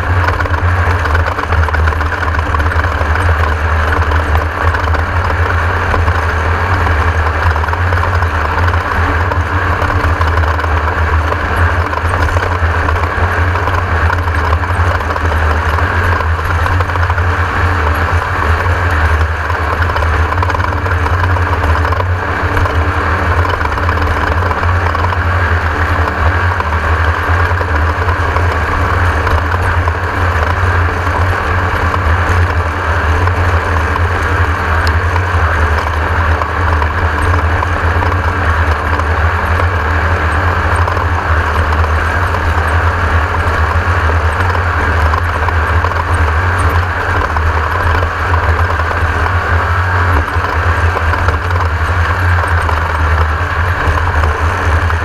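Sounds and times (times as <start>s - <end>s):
deep engine drone: 0.0s - 55.0s.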